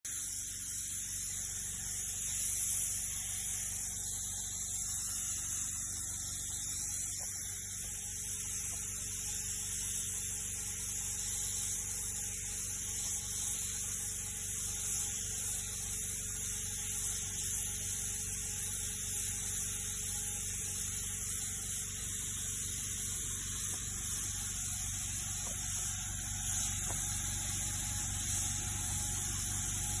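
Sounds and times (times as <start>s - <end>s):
high hiss: 0.1s - 30.0s.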